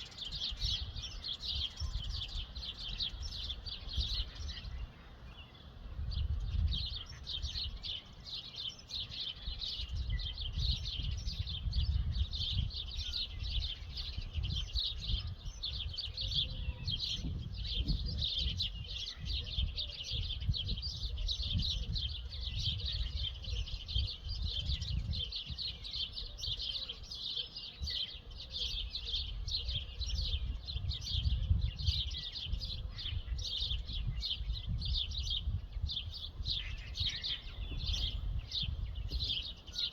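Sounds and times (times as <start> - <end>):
many birds chirping: 0.0 - 39.9.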